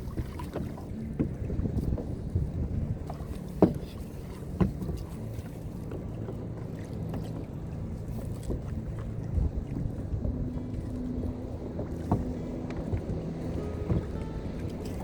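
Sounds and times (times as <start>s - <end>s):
water and wind against hull: 0.0s - 15.0s.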